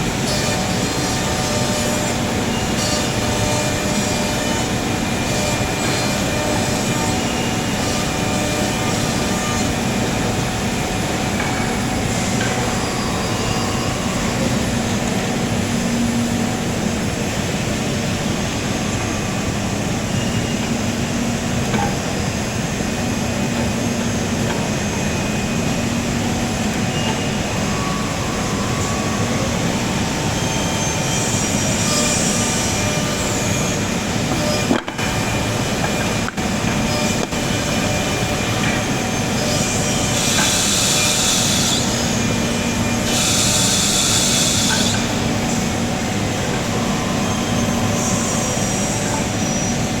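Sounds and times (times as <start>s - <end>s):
mortising machine running: 0.0s - 50.0s.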